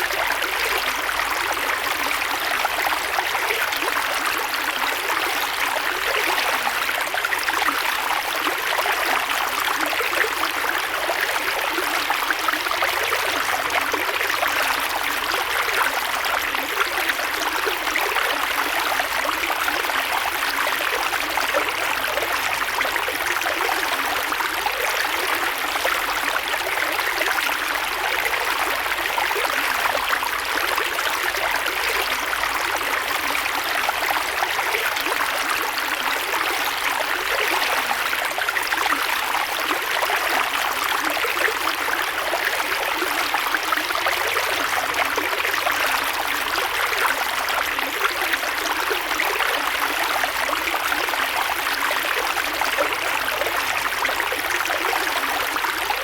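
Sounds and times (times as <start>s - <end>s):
water flowing over rocks: 0.0s - 56.0s.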